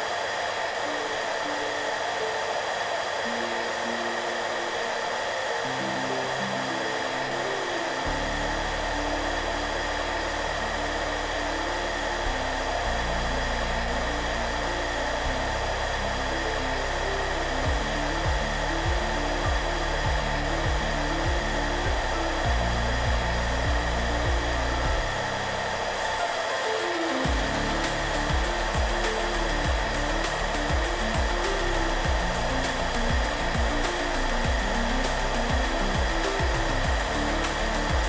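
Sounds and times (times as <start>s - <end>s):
hairdryer running: 0.0s - 38.0s
soft background music: 0.0s - 38.0s.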